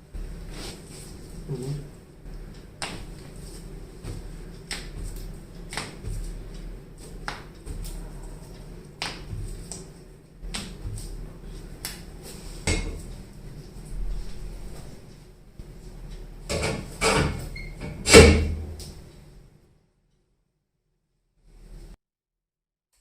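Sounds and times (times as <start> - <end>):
steady low hum: 0.0 - 20.3.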